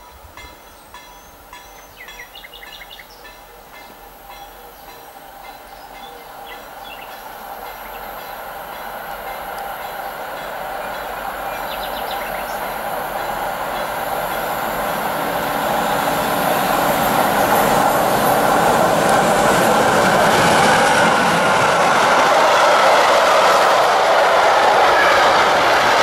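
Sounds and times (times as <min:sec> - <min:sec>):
train wheels rolling on rails: 0:00.0 - 0:26.0.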